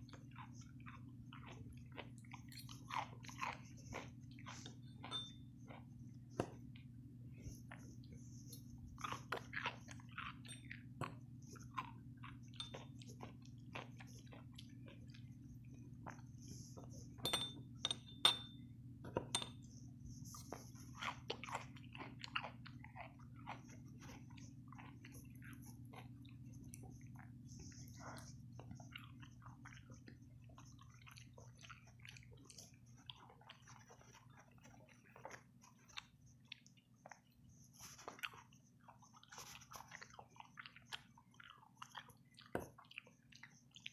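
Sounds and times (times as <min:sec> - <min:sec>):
person chewing: 0:00.0 - 0:17.2, 0:20.2 - 0:43.9
low steady hum: 0:00.0 - 0:43.9.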